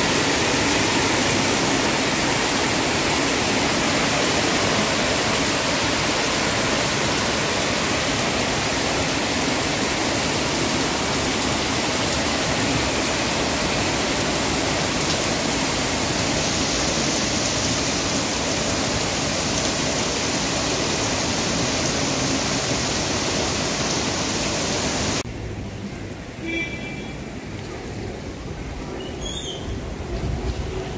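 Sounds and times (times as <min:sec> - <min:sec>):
heavy rain on trees: 0:00.0 - 0:30.9.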